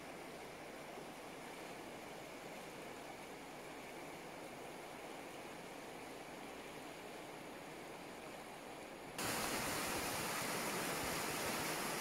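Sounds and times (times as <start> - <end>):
river rushing over rocks: 0.4 - 12.0.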